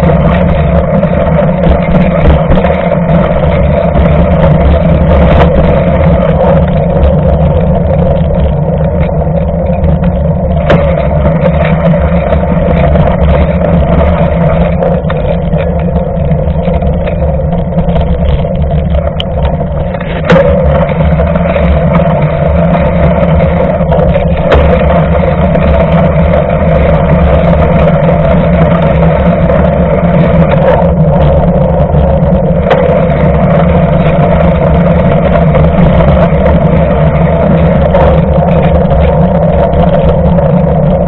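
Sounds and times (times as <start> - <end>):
bike clicks and rattles: 0.0 - 41.0
bike tyre humming on asphalt: 0.0 - 41.0.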